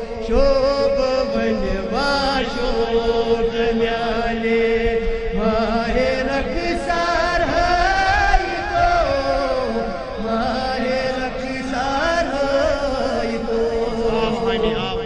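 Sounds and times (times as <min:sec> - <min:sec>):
man chanting into a microphone: 0:00.0 - 0:15.0
steady held drone note: 0:00.0 - 0:15.0.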